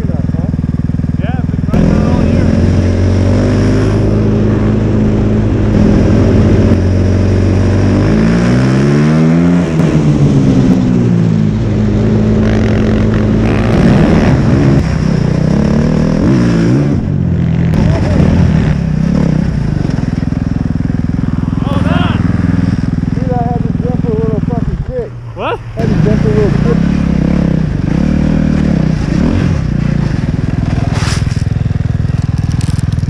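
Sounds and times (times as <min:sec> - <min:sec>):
snow vehicle engine revving: 0:00.0 - 0:33.0.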